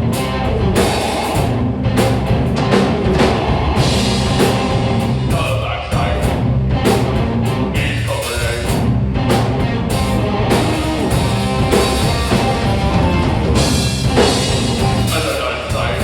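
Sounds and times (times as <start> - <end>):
rock band playing live: 0.0 - 16.0
drum and cymbal hits: 0.2 - 16.0.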